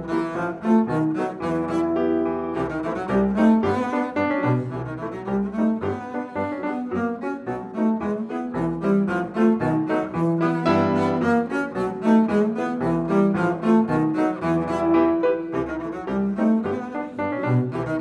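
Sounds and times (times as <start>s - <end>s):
bowed double bass melody: 0.0s - 18.0s
piano chords: 0.0s - 18.0s.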